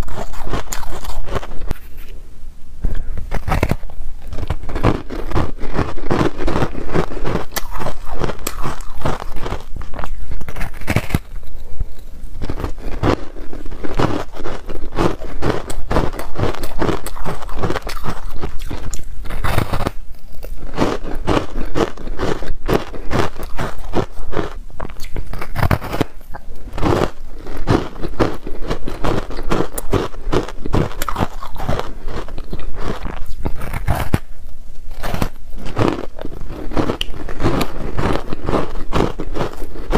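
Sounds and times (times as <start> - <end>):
crunchy ice bar chewing: 0.0 - 2.2, 3.2 - 39.9.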